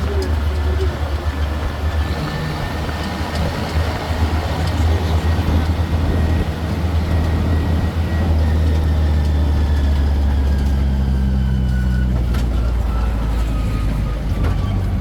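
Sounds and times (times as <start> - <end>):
engine rumbling: 0.0 - 15.0
road noise: 0.0 - 15.0.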